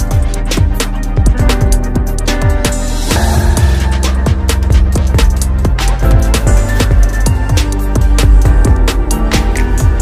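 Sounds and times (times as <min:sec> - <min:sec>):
music with deep drum beat: 0:00.0 - 0:10.0.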